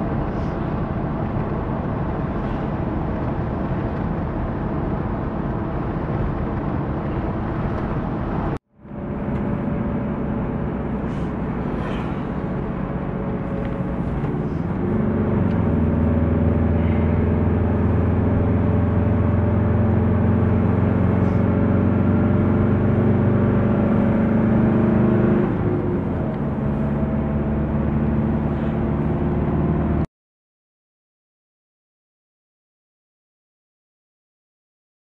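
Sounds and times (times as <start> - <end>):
car engine: 0.0 - 30.1.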